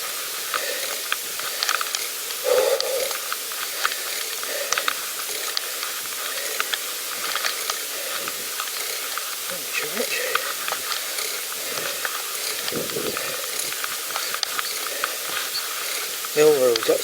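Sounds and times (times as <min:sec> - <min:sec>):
bike tyre noise: 0:00.0 - 0:17.0
light ticks and crackles: 0:00.0 - 0:17.0.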